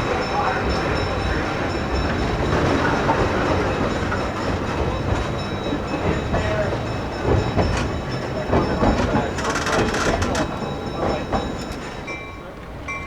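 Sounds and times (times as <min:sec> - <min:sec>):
train wheels clacking over rail joints: 0:00.0 - 0:12.9
train rumble: 0:00.0 - 0:13.0.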